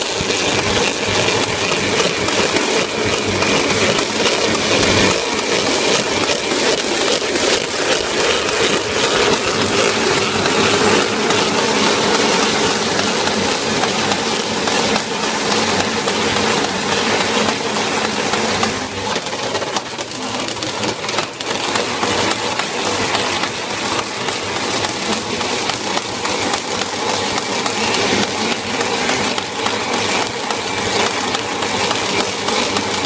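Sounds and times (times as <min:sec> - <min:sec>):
printing machine clatter: 0:00.0 - 0:33.0.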